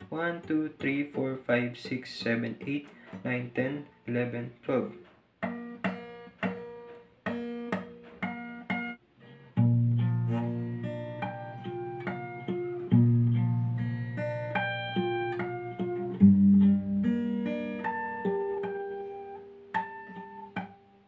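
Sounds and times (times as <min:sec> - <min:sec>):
acoustic guitar fingerstyle: 0:00.0 - 0:21.0.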